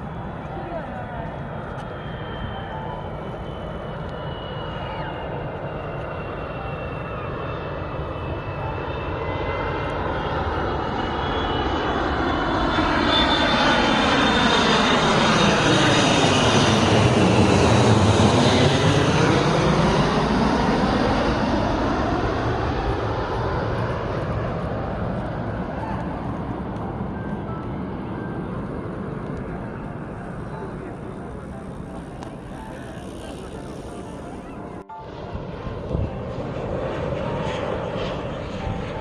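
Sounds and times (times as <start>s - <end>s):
airplane engine roar and whine: 0.0s - 39.0s.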